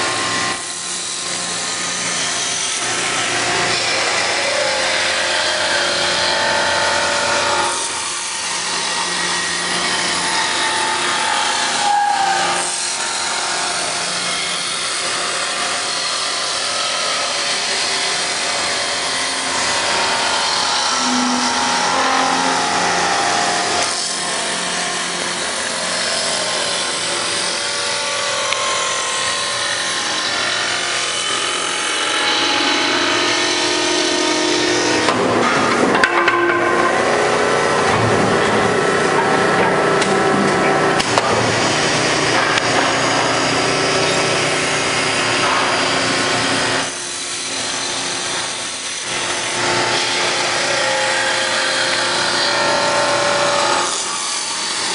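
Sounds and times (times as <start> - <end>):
wood lathe cutting: 0.0 - 54.9.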